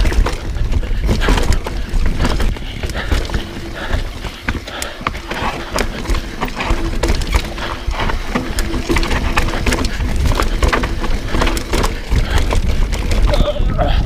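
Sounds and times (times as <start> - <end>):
bike rattling over rough trail: 0.0 - 14.0
steady low rumble: 0.0 - 14.0.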